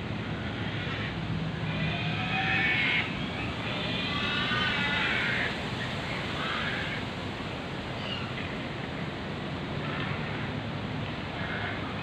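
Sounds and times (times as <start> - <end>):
breeze through leaves: 0.0 - 12.0.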